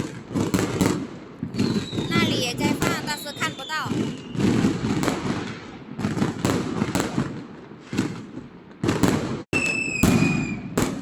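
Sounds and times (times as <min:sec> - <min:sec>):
firecrackers banging: 0:00.0 - 0:11.0
whistling firework: 0:00.0 - 0:11.0.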